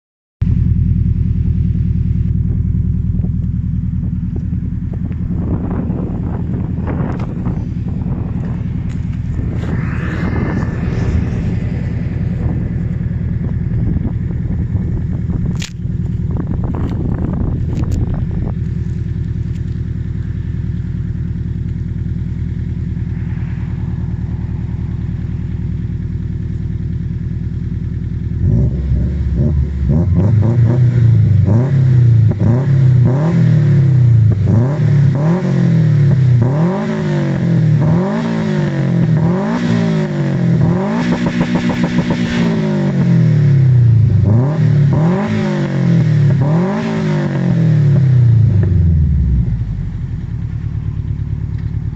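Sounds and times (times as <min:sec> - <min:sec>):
car engine idling and revving: 0:00.4 - 0:51.9.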